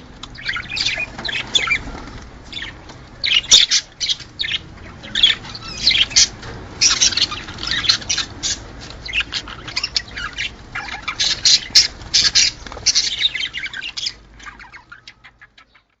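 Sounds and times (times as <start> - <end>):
budgerigars chattering and squawking: 0.0 - 16.0.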